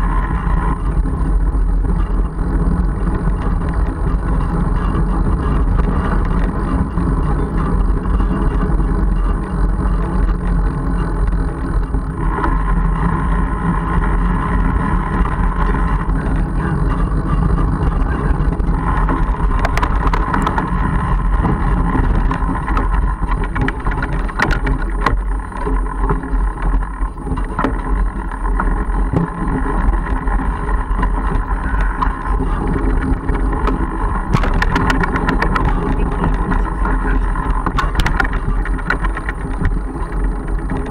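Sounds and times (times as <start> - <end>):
bike rattling over bumps: 0.0 - 40.9
bike tyres rumbling on dirt: 0.0 - 40.9
wind on microphone: 0.0 - 40.9.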